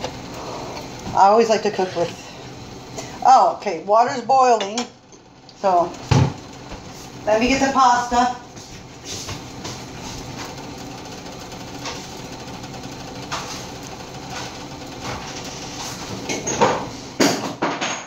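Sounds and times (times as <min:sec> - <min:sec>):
water bubbling in pot: 0:00.0 - 0:17.6.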